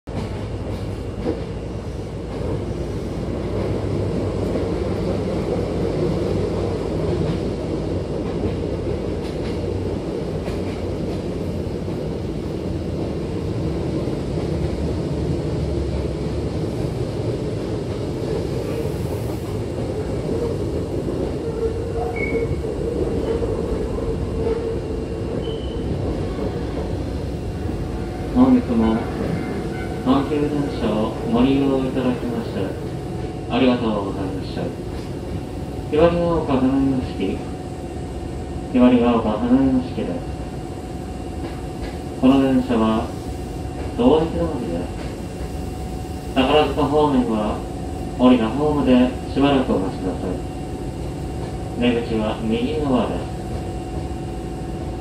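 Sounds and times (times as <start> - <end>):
train wheels rumbling on rails: 0.1 - 55.0.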